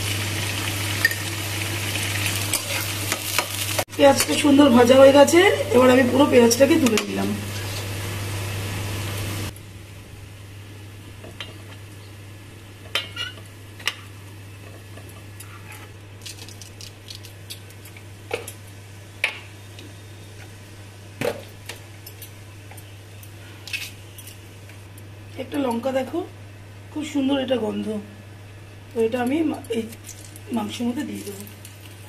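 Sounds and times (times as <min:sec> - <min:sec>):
steady low hum: 0:03.8 - 0:32.0.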